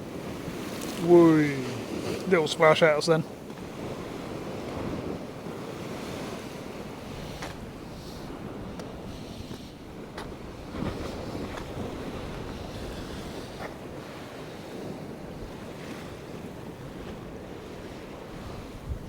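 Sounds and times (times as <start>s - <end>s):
waves breaking: 0.0s - 19.0s
wind buffeting microphone: 0.0s - 19.0s.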